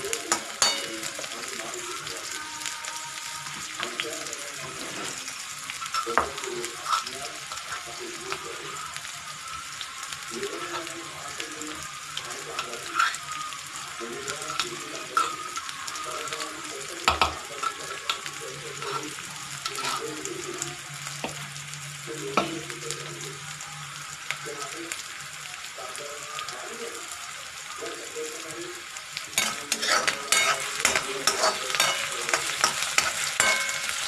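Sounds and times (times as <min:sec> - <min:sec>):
onion sizzling in hot oil: 0:00.0 - 0:34.0.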